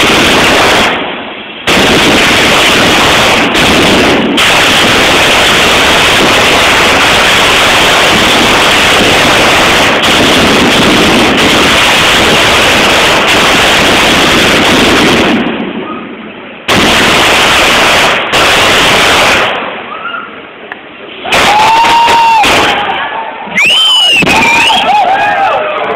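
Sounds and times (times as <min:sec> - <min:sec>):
sharp firework bang: 0:00.0 - 0:16.1, 0:16.7 - 0:19.8, 0:21.3 - 0:23.0, 0:24.2 - 0:24.8
firecrackers crackling: 0:00.0 - 0:25.9.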